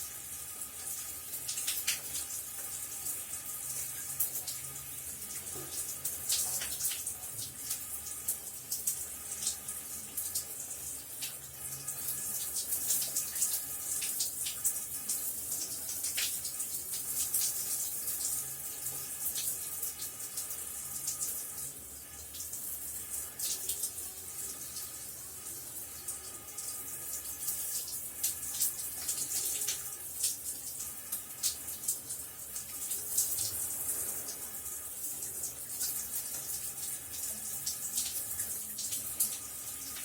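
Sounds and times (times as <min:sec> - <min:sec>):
shower water running: 0:00.0 - 0:40.0.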